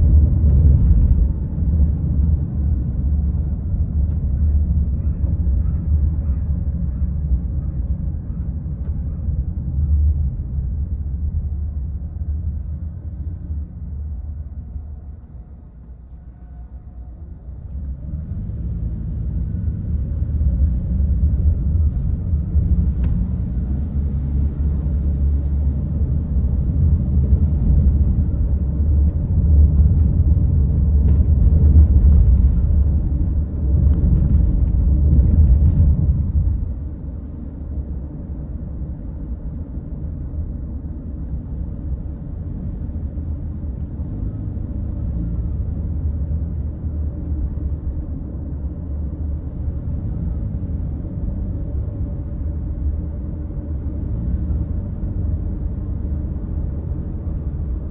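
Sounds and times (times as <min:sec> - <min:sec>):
car driving heard from inside: 0:00.0 - 0:57.9.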